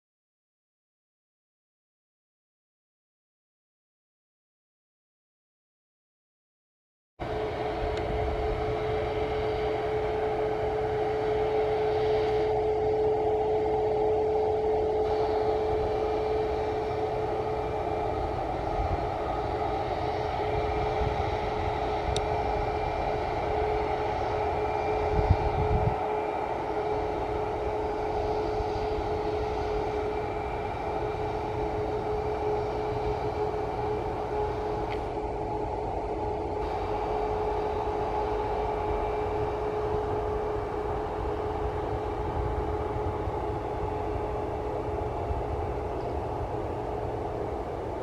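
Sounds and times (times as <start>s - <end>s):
jet engines idling: 7.2s - 48.0s.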